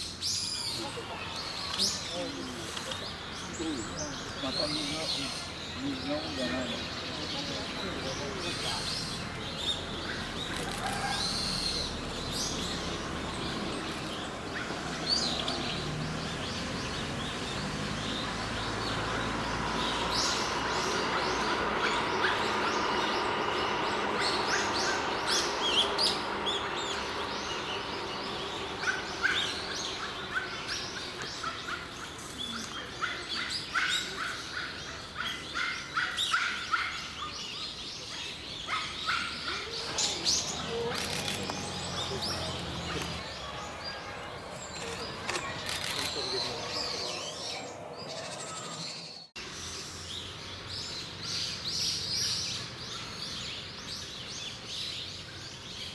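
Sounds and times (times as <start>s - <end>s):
birds chirping: 0.0s - 55.9s
steady background noise: 0.0s - 55.9s.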